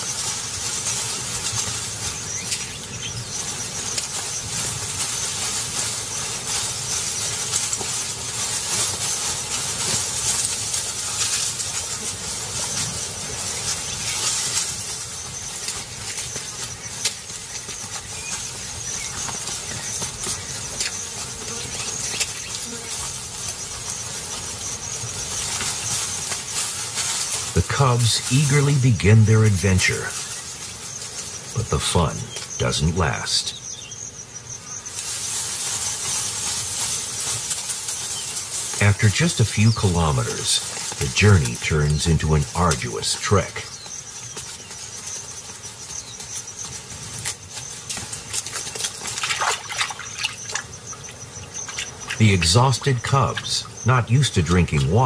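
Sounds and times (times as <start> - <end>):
hissing grassland ambience: 0.0 - 55.0.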